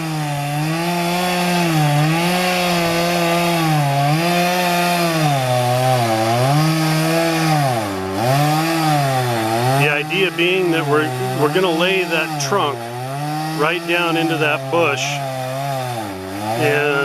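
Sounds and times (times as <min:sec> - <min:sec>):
chainsaw cutting into tree trunk: 0:00.0 - 0:17.0.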